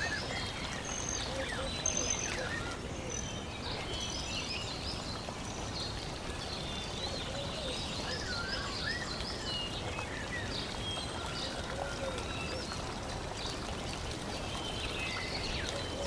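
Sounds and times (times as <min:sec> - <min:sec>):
birds chirping and warbling: 0:00.0 - 0:16.0.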